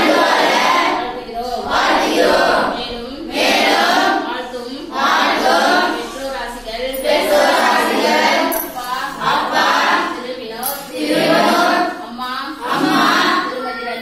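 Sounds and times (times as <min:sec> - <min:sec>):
women singing a prayer: 0:00.0 - 0:14.0.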